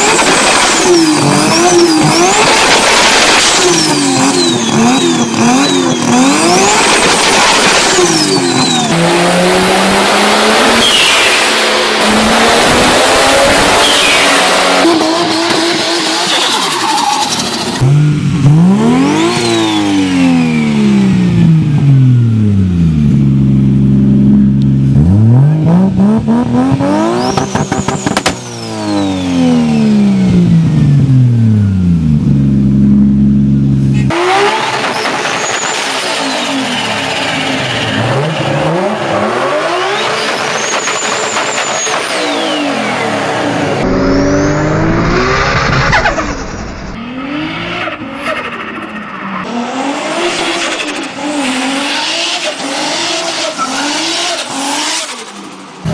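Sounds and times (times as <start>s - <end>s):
turbocharged car engines revving: 0.0s - 55.9s.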